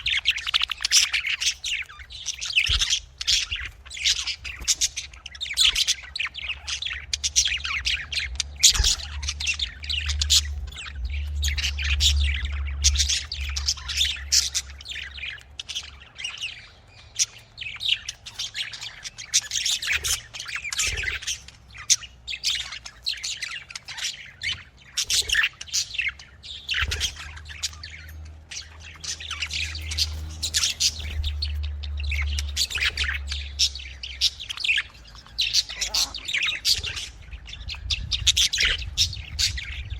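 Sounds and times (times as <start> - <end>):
budgies chirping and warbling: 0.0 - 39.9.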